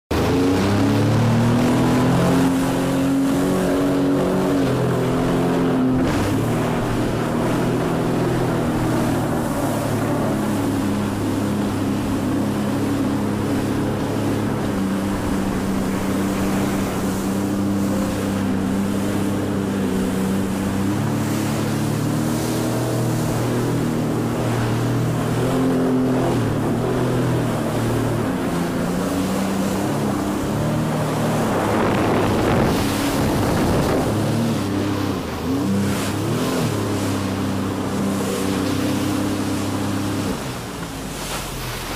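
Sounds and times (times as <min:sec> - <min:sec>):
water noise: 0:00.0 - 0:41.9
wind on microphone: 0:00.1 - 0:40.4
watercraft engine running: 0:00.1 - 0:41.9.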